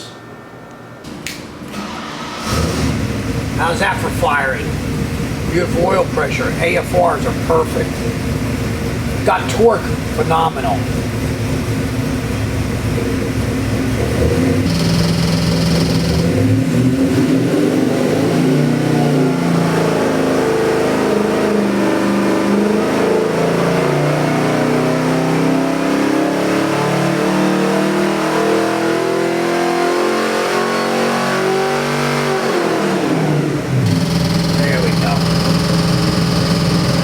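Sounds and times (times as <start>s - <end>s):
engine revving on dynamometer: 1.8s - 37.0s.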